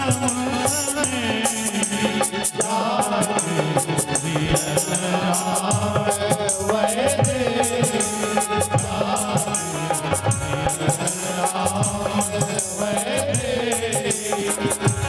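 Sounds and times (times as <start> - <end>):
jingling percussion: 0.0 - 15.0
person singing: 0.0 - 15.0.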